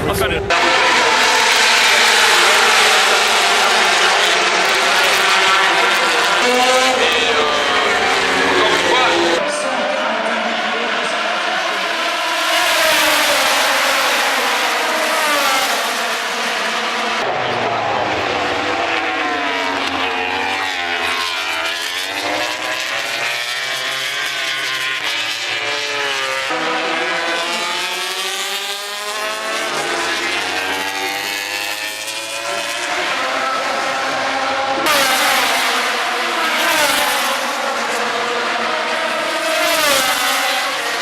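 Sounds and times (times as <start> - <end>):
racing motorcycles at high revs: 0.5 - 41.0.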